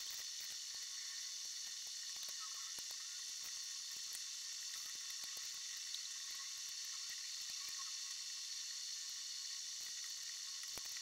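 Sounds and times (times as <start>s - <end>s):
small crackles: 0.0s - 11.0s.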